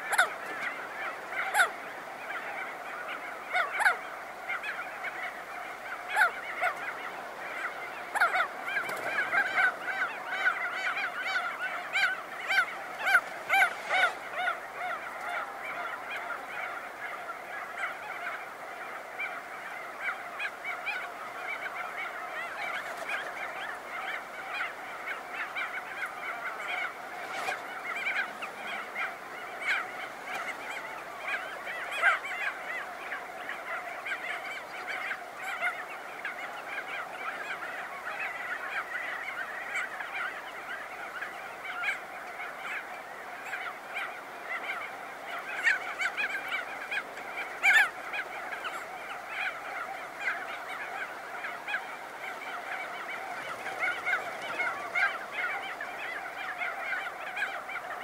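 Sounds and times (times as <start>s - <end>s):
close bird calls: 0.0s - 58.0s
seabird colony calling: 0.0s - 58.0s.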